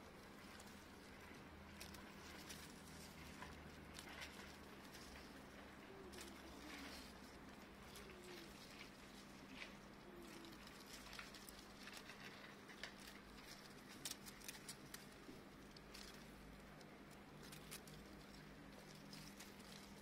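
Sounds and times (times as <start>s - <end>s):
dry grass rustling: 0.0s - 20.0s
faint low hum: 0.0s - 20.0s.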